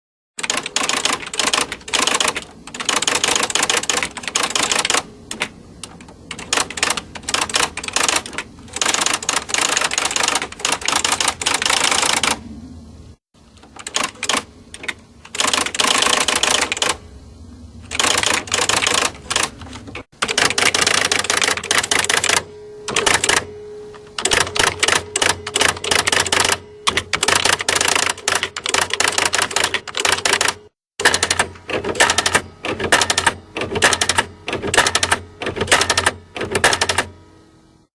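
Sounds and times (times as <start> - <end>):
typewriter keys clacking: 0.4 - 12.4, 13.6 - 17.0, 17.9 - 23.5, 24.2 - 37.1.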